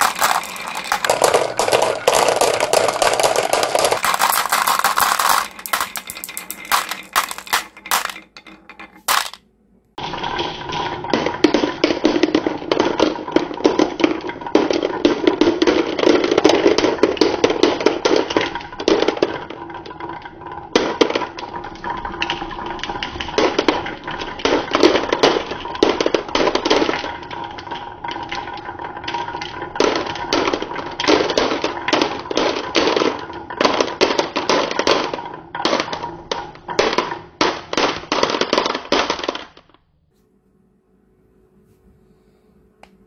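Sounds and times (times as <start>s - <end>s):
glass marbles rolling and clacking: 0.0s - 9.4s, 10.0s - 39.8s.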